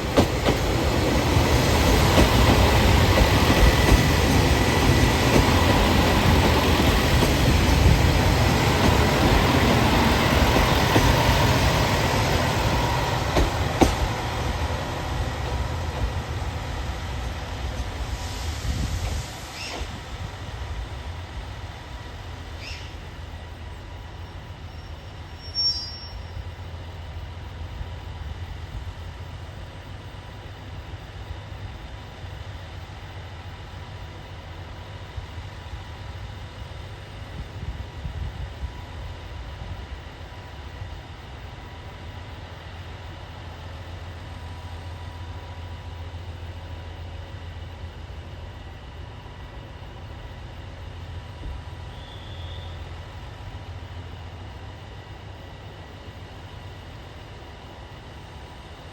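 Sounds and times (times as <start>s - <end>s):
diesel train engine rumbling: 0.0s - 58.9s.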